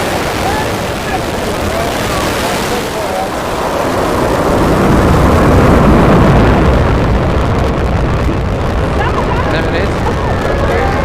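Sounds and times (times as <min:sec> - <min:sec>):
rocket engines roaring: 0:00.0 - 0:11.0.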